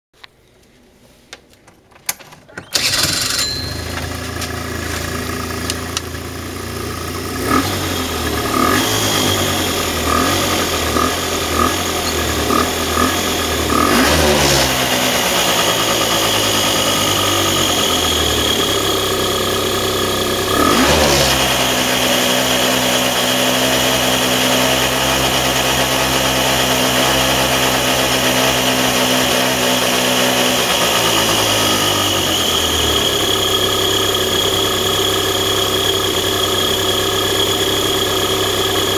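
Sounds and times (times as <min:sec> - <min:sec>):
small car engine running: 0:02.6 - 0:38.9.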